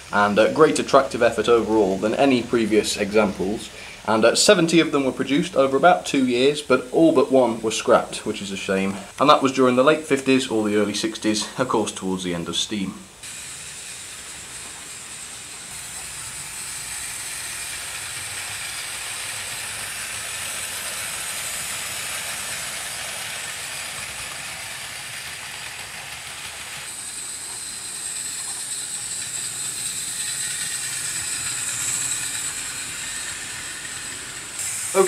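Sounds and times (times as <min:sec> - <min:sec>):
model train motor whirring: 0:00.0 - 0:35.0.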